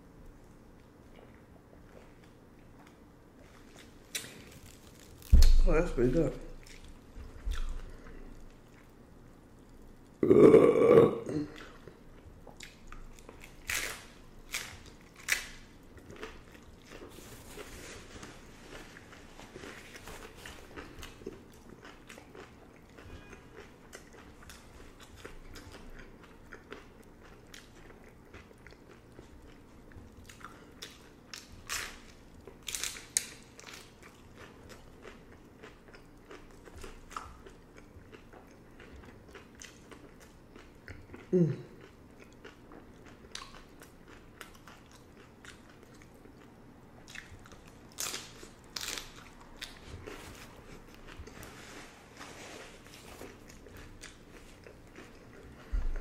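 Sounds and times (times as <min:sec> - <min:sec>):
crunchy tacos being bitten: 0:00.4 - 0:55.8.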